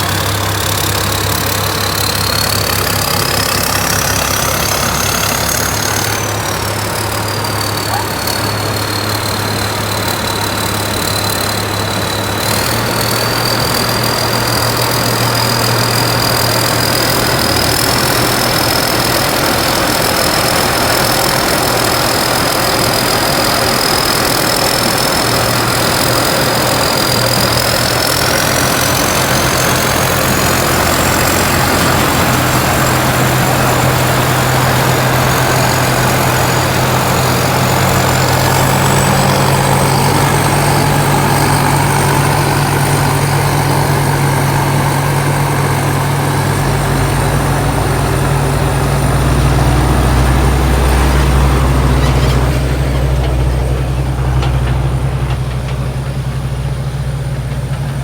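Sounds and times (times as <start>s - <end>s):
high whine climbing in pitch: 0.0s - 55.4s
combine harvester engine running: 0.0s - 58.0s
deeper engine note: 0.0s - 58.0s.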